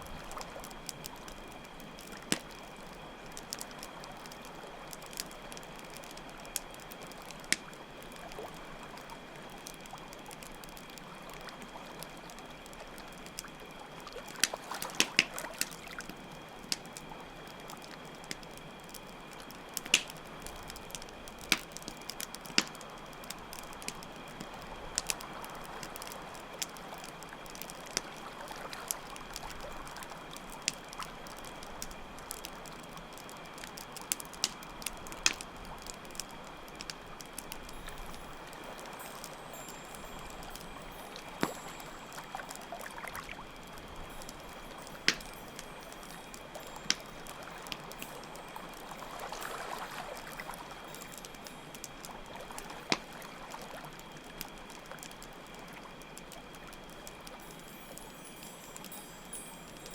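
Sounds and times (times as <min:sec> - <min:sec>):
campfire crackling and popping: 0:00.0 - 0:59.9
crickets chirping: 0:00.0 - 0:59.9
trickle of running water: 0:00.0 - 0:59.9.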